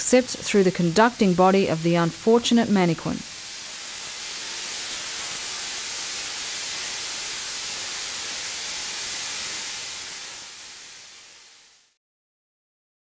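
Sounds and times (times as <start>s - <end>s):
tesla coil sparks sizzling: 0.0s - 12.0s.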